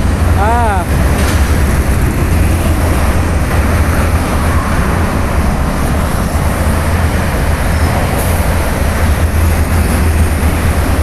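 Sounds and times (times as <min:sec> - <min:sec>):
road and wind noise: 0:00.0 - 0:11.0
vehicle rumble: 0:00.0 - 0:11.0.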